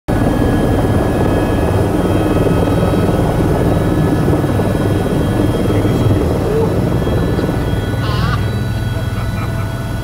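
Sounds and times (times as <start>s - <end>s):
helicopter rotor rumble: 0.1s - 10.0s
turbine high whine: 0.1s - 10.0s.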